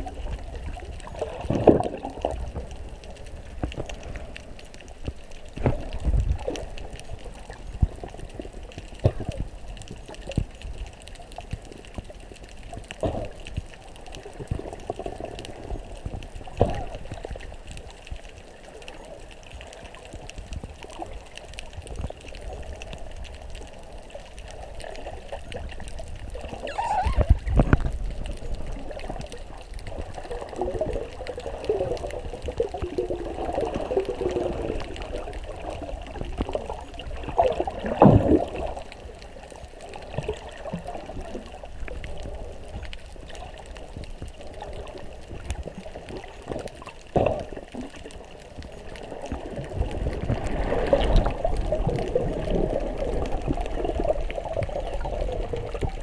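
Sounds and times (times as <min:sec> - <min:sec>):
muffled underwater water sound: 0:00.0 - 0:56.0.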